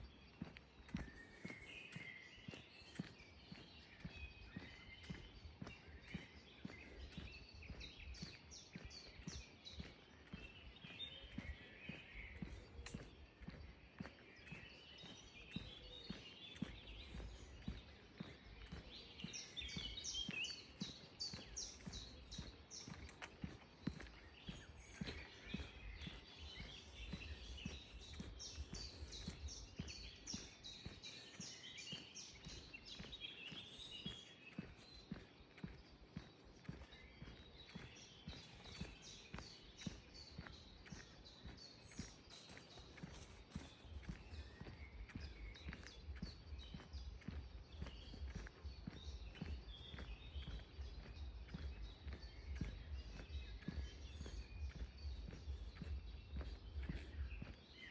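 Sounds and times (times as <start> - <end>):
birds singing and chirping: 0.0 - 57.9
footsteps on a path: 0.0 - 57.9.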